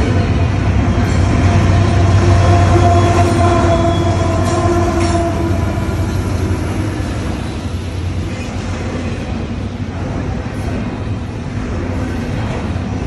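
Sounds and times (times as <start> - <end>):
diesel locomotive engine drone: 0.0 - 13.0
train wheels rumbling on rail: 0.0 - 13.0.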